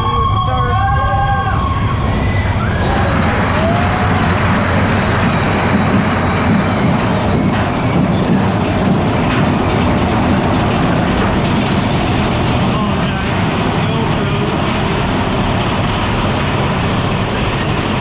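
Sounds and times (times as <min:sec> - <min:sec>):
roller coaster train rumbling on track: 0:00.0 - 0:18.0.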